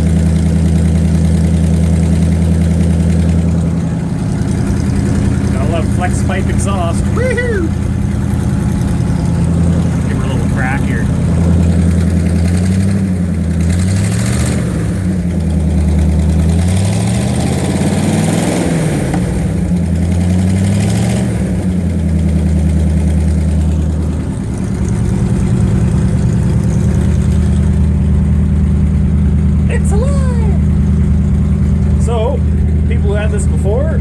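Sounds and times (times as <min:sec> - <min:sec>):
engine revving and idling: 0:00.0 - 0:34.0.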